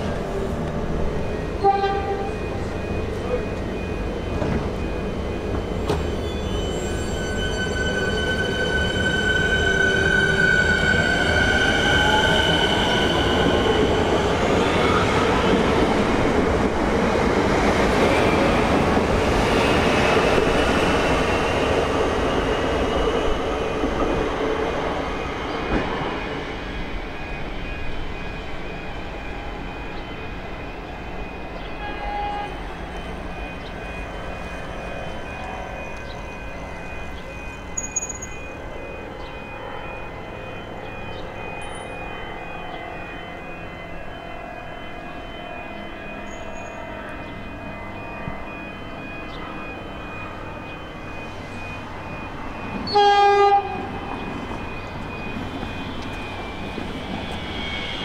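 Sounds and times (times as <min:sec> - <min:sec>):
wheel and rail noise: 0:00.0 - 0:58.0.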